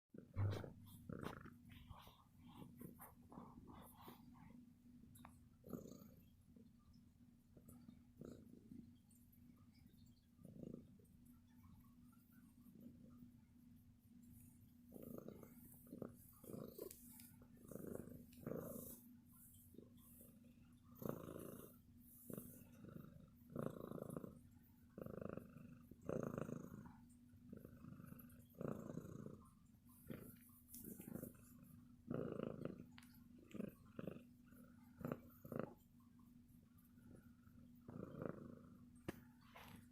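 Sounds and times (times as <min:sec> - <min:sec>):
cat purring: 0:00.2 - 0:39.9.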